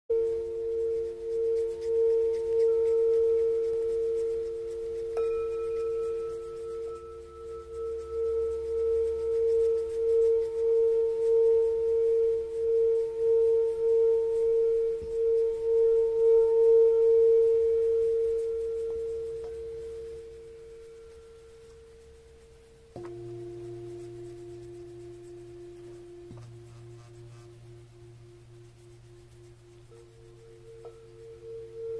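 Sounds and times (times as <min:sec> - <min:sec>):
singing bowl ringing: 0:00.1 - 0:31.9.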